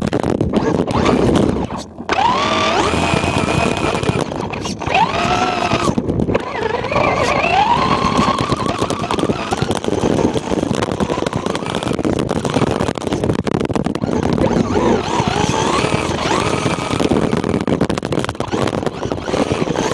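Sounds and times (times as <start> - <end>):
chassis rattling over snow: 0.0 - 19.9
electric motor whine: 0.6 - 19.9.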